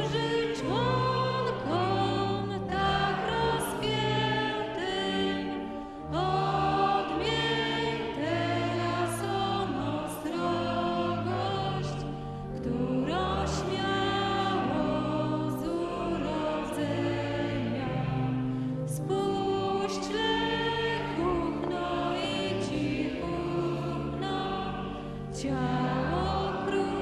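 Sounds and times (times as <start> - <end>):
many voices singing a hymn: 0.0 - 27.0.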